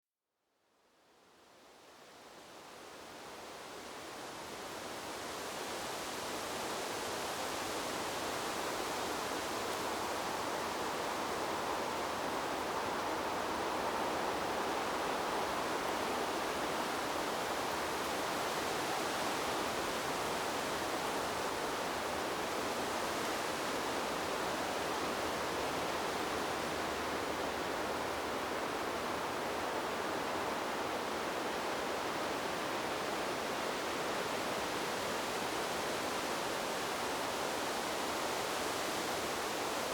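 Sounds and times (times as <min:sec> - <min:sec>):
wind rushing through trees: 0:01.6 - 0:39.9.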